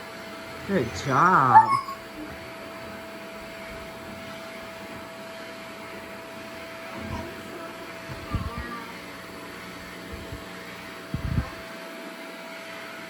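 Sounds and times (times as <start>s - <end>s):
grooming vacuum running: 0.0s - 13.0s.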